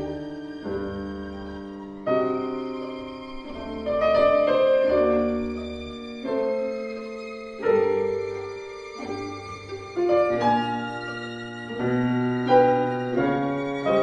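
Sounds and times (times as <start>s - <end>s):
held violin notes: 0.0s - 14.0s
piano chords: 0.0s - 14.0s.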